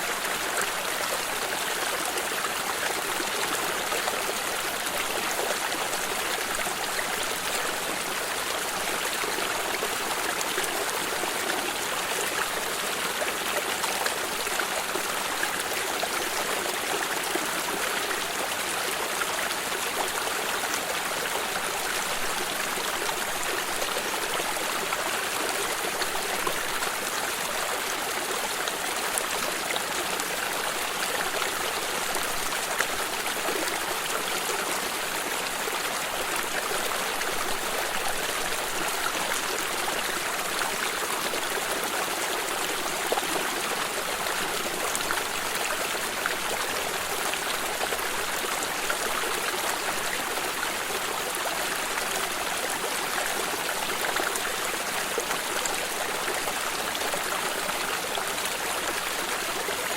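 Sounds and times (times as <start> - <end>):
water stream babbling: 0.0 - 59.9.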